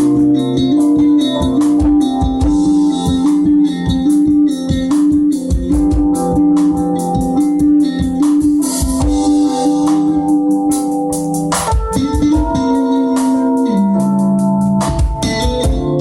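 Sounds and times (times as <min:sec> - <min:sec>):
plucked guitar: 0:00.0 - 0:16.0
steady drum beat: 0:00.0 - 0:16.0.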